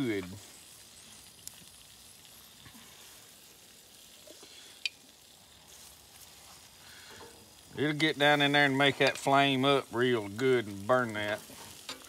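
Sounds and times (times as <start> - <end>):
meat sizzling faintly on grill: 0.0 - 12.0.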